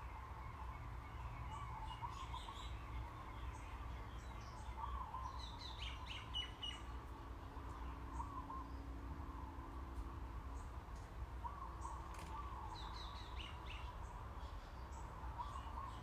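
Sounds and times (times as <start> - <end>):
small birds chirping: 0.0 - 9.7, 10.4 - 16.0
low steady hum: 0.0 - 16.0.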